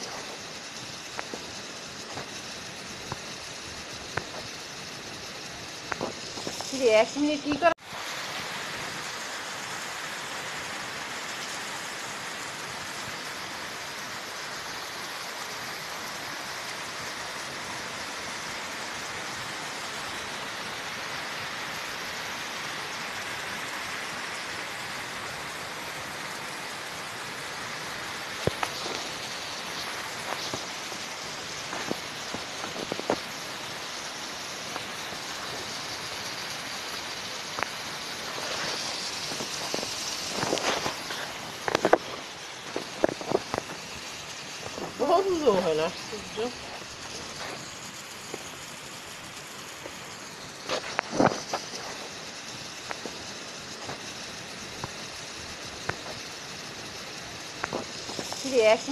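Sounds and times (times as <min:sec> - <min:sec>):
heavy rain on leaves: 0:00.0 - 0:58.9
runoff water splashing: 0:00.0 - 0:58.9.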